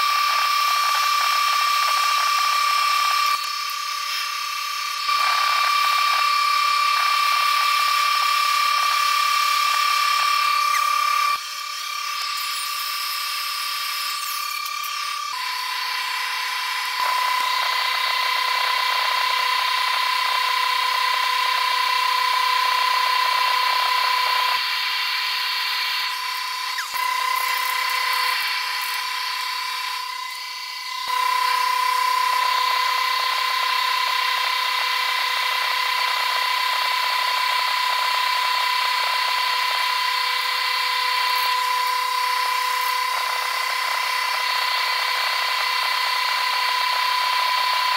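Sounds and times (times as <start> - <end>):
electric grinder whining on steel: 0.0 - 47.9.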